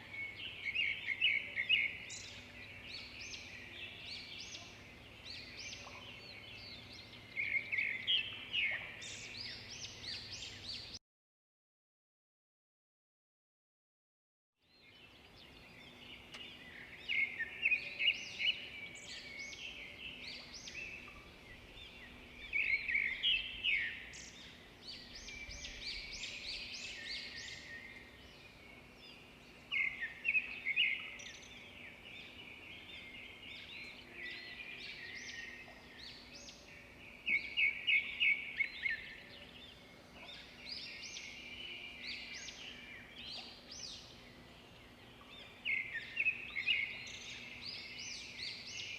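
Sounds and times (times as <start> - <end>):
songbirds chirping: 0.0 - 11.0, 14.6 - 48.9.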